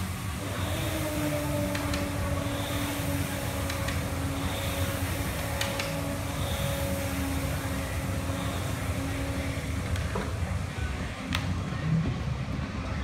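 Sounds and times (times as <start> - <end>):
rowing machine flywheel whooshing: 0.0 - 13.0
steady hum: 0.0 - 13.0.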